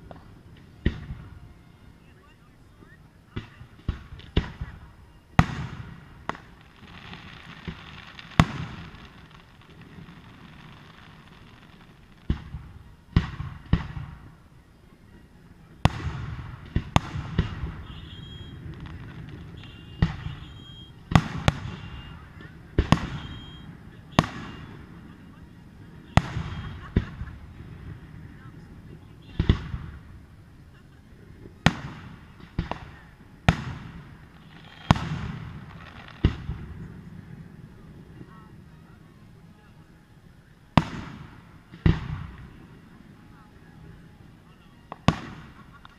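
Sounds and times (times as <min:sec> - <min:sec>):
fireworks bursting with echo: 0:00.0 - 0:45.9.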